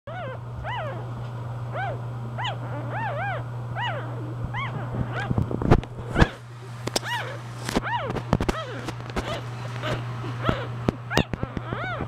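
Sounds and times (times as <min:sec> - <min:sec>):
puppy squeaking: 0:00.1 - 0:01.1, 0:01.7 - 0:05.4, 0:06.0 - 0:12.0
steady low hum: 0:00.1 - 0:12.0.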